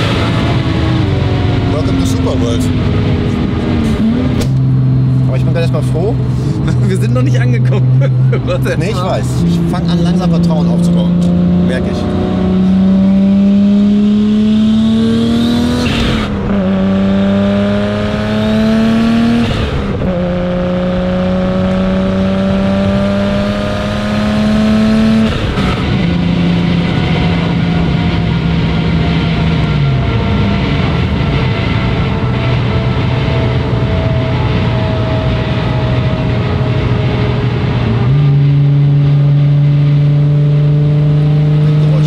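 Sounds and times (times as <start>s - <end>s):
turbocharged car engine accelerating: 0.0s - 42.0s.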